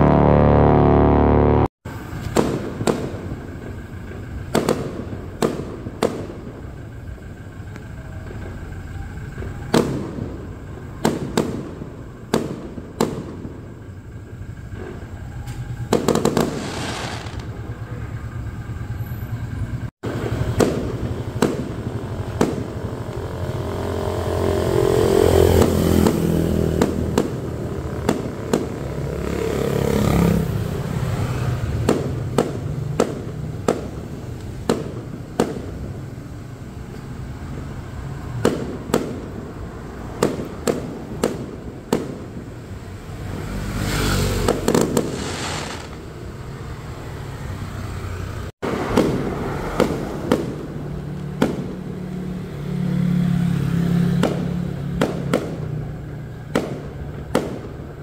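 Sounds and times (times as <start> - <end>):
fireworks bangs: 0.0 - 7.5, 8.2 - 18.4, 20.0 - 24.6, 25.4 - 29.7, 30.6 - 36.4, 37.4 - 42.8, 44.4 - 46.5, 48.6 - 52.0, 54.1 - 58.0
passing vehicle: 0.0 - 58.0.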